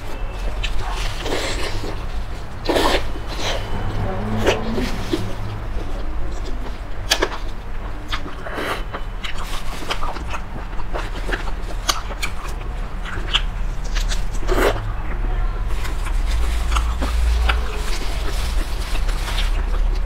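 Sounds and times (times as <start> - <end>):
person chewing and sucking meat: 0.0 - 20.0.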